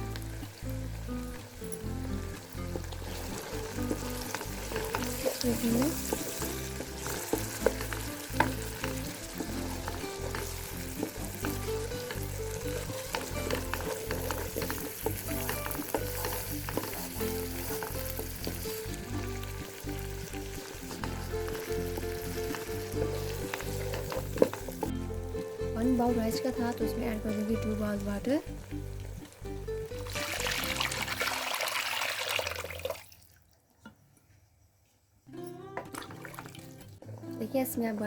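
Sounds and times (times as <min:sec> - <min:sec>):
vegetables sizzling in oil: 0:00.0 - 0:32.8.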